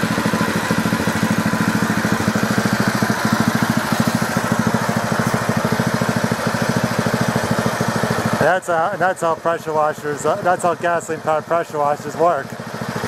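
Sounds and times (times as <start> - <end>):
pressure washer engine running: 0.0 - 13.0.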